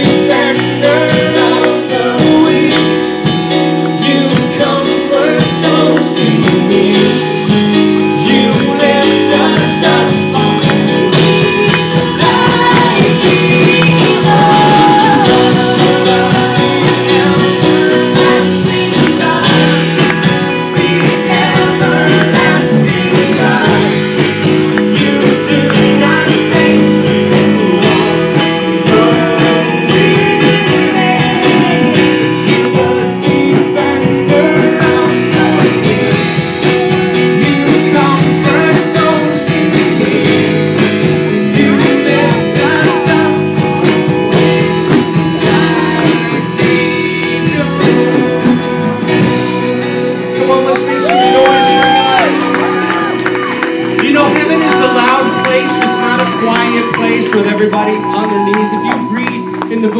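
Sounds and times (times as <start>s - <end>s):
person singing: 0.0s - 59.9s.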